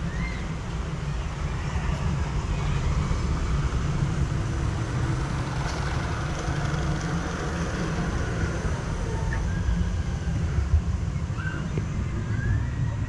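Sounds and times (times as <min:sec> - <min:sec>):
boat rumble and water hiss: 0:00.0 - 0:13.0.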